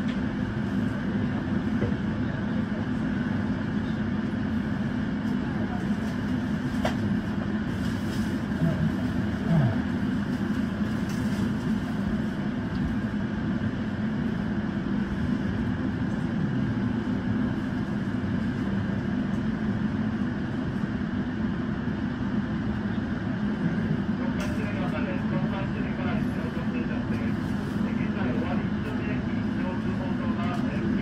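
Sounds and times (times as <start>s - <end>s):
electric train interior hum: 0.0s - 31.0s.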